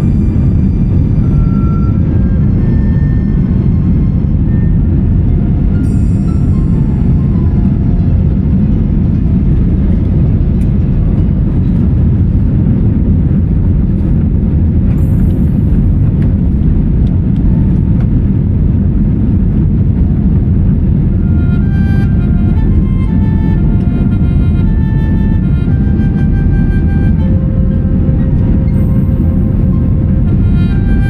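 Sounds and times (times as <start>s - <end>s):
jet airliner cabin rumble: 0.0s - 31.0s.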